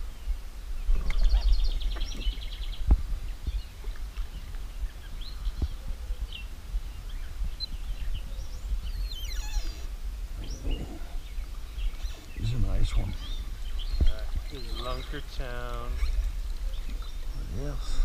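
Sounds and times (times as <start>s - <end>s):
birds chirping: 0.0s - 18.0s
wind rumble on microphone: 0.0s - 18.0s.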